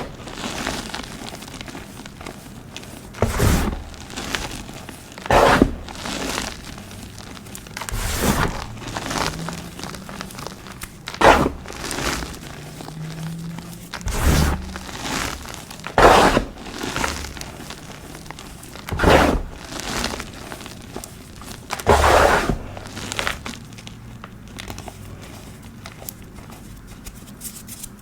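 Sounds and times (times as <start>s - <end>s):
chalk blocks crunching by hand: 0.0s - 28.0s.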